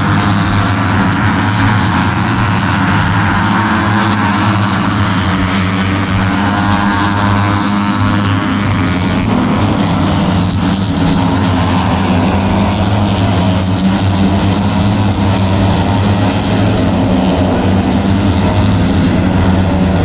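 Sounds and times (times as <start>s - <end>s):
low hum: 0.0s - 20.0s
vehicle engine droning: 0.0s - 20.0s.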